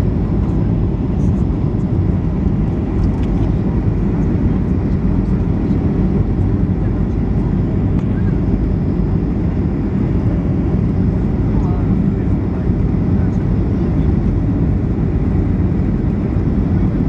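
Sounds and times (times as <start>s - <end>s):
jet engine roar in cabin: 0.0s - 17.0s.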